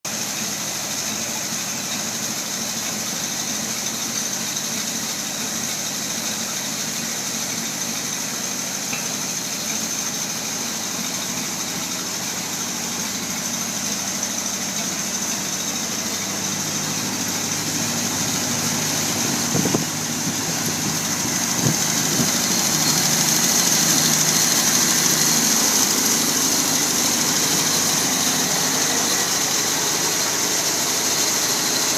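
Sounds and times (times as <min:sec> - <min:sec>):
truck engine idling: 0:00.1 - 0:31.9.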